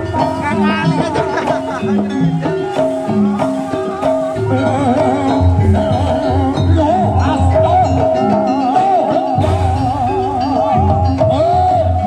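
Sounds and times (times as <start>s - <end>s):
high gamelan melody: 0.0s - 12.0s
low drum beats: 0.0s - 12.0s.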